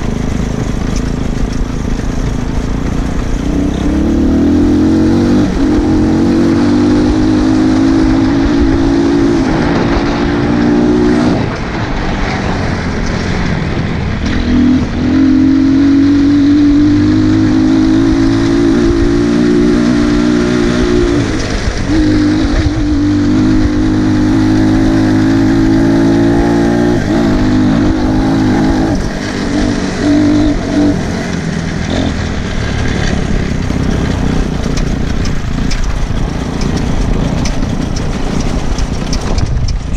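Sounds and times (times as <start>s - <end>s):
dirt bike engine revving: 0.0s - 39.5s.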